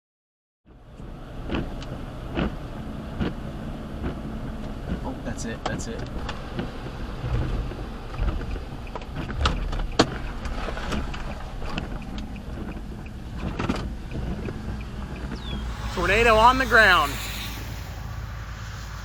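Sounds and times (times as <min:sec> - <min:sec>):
car road and engine rumble: 0:00.7 - 0:19.0.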